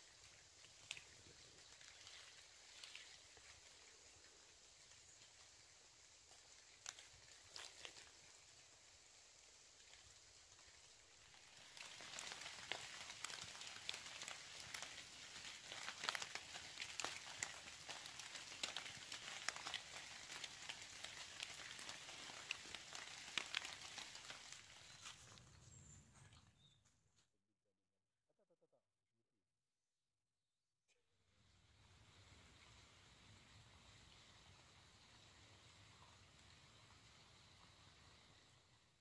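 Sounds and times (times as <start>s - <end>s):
rain on tree leaves: 0.0s - 25.4s, 31.7s - 38.9s.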